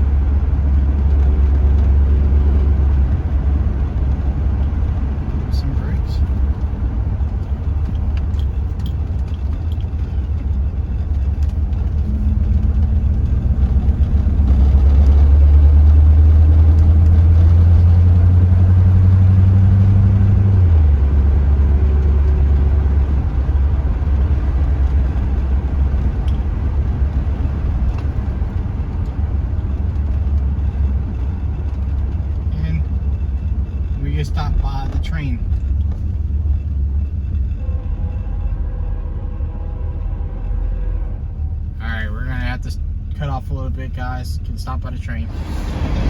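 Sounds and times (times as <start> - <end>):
car engine droning: 0.0 - 46.0.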